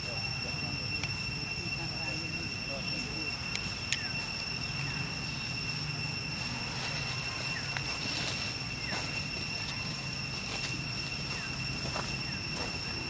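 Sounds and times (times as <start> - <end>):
high-pitched steady drone: 0.0 - 13.0
low steady hum: 0.0 - 13.0.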